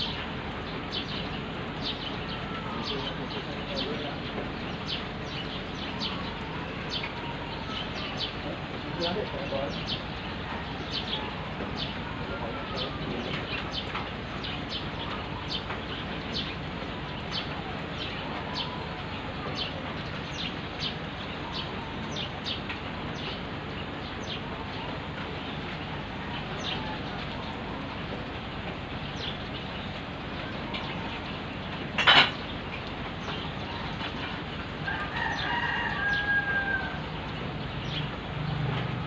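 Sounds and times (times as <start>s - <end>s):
small birds chirping: 0.0s - 39.0s
steady rain falling: 0.0s - 39.0s.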